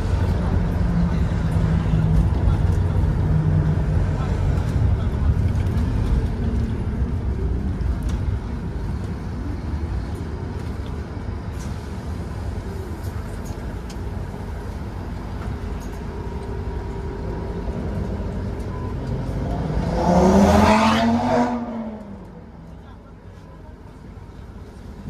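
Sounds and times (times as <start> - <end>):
bus engine rumble: 0.0 - 25.0.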